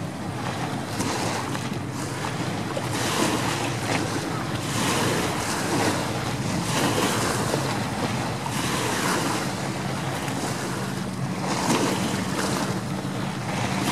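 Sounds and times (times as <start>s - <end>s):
choppy water wash: 0.0s - 13.9s
motorboat engines droning: 0.0s - 13.9s.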